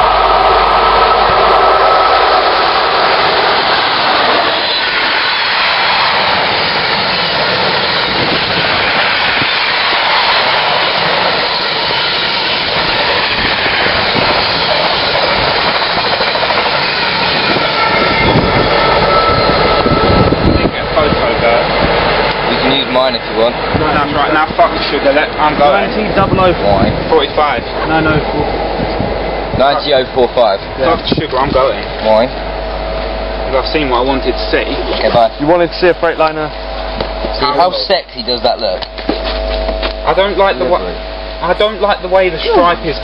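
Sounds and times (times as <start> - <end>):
electric locomotive whine: 0.0 - 43.0
train wagons rumbling on rails: 0.0 - 43.0.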